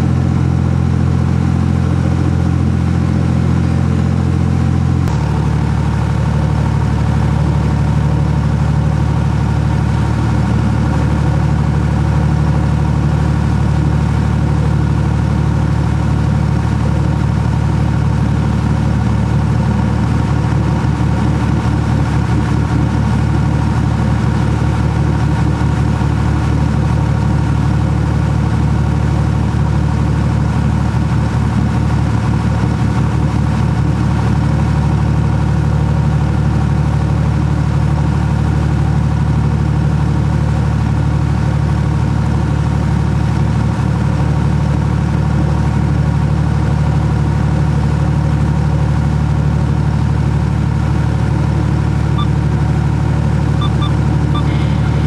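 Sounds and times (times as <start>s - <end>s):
boat engine running steadily: 0.0s - 55.0s.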